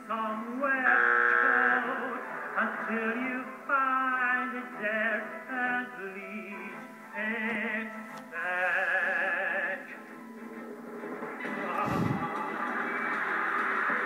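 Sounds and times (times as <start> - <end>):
man singing operatically: 0.0 - 10.1, 11.5 - 13.0
backing music: 0.0 - 14.0.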